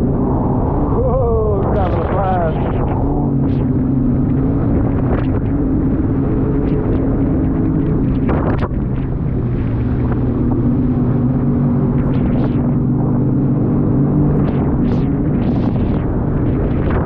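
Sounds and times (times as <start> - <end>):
jet ski engine running: 0.0 - 17.0
wind buffeting microphone: 0.0 - 17.0.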